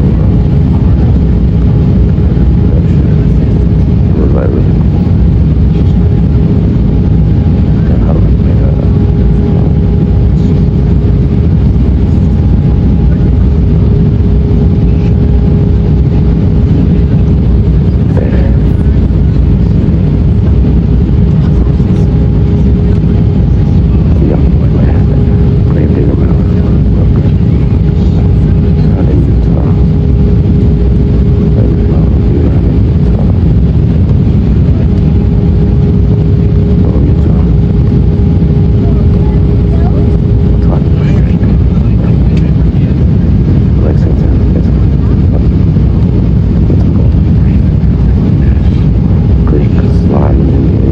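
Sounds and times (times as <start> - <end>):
airliner engine and airflow roar: 0.0 - 50.9
constant droning tone: 0.0 - 50.9
constant hum: 0.0 - 50.9.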